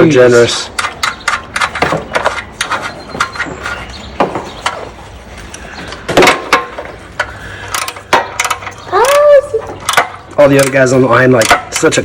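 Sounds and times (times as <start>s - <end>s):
metal tools clattering: 0.4s - 5.0s, 5.9s - 12.0s
metal parts clicking and knocking: 0.7s - 4.9s, 6.0s - 12.0s.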